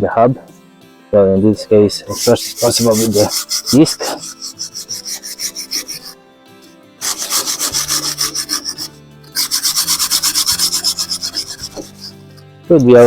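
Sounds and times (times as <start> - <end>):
scraping rust off metal: 1.8 - 13.0.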